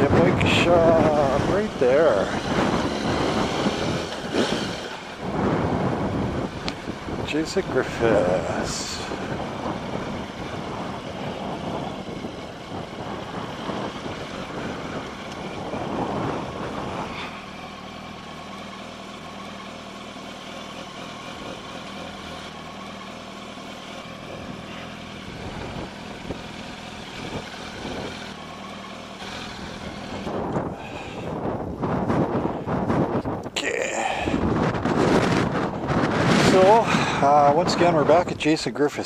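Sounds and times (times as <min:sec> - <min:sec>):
motorcycle engine idling: 0:00.1 - 0:33.3.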